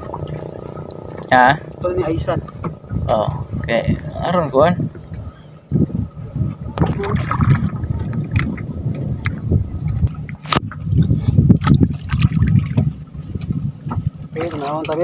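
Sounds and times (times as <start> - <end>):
knocks and clicks on boat: 0.0 - 3.2, 4.8 - 15.0
water sloshing around boat: 0.0 - 15.0.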